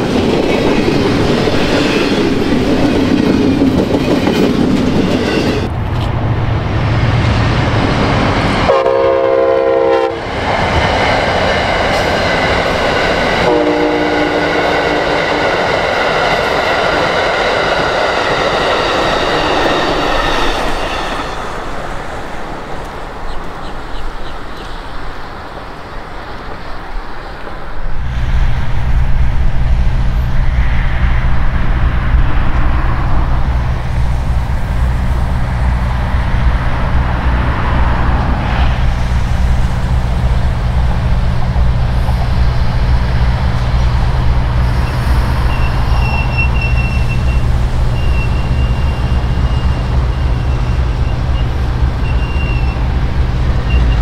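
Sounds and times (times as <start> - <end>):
passing train: 0.0 - 54.0.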